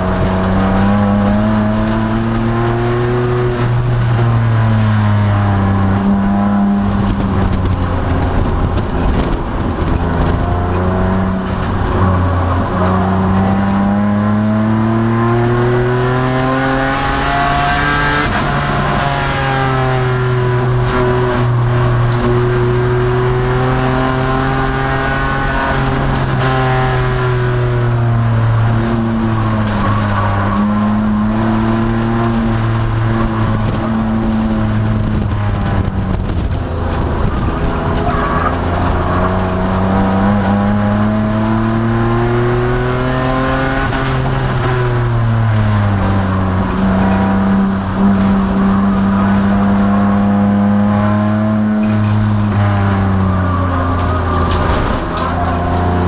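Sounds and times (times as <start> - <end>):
car engine revving under load: 0.0 - 56.0.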